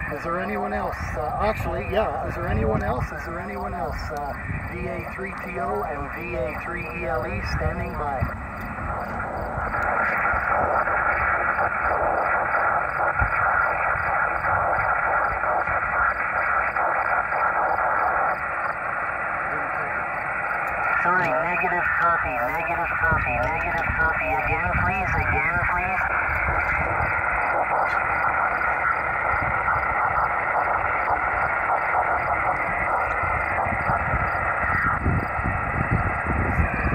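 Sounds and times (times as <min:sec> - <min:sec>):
wind rumble on microphone: 0:00.0 - 0:19.1, 0:20.7 - 0:36.9
radio receiver hiss: 0:00.0 - 0:36.9.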